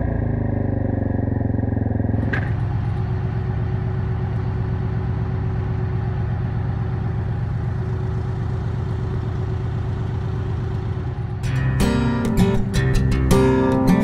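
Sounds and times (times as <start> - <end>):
engine droning at low revs: 0.0 - 14.0.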